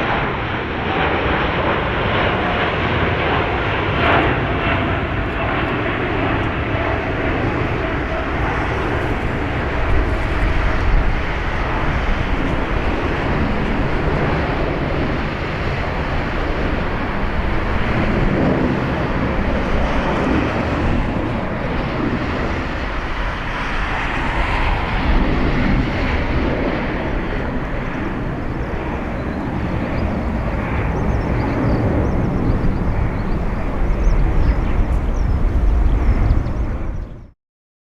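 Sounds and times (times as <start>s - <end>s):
jet engine low rumble: 0.0s - 37.4s.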